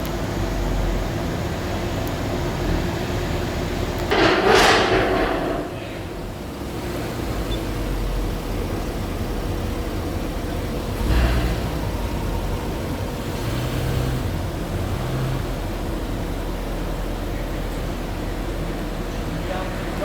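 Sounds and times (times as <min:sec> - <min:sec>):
car engine and exhaust: 0:00.0 - 0:20.0
street noise: 0:00.0 - 0:20.0.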